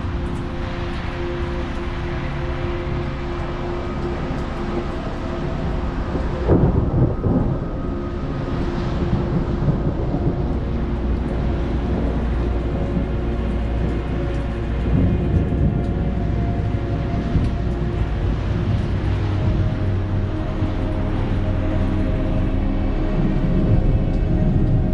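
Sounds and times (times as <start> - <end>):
low rumble of thunder: 4.8 - 24.9.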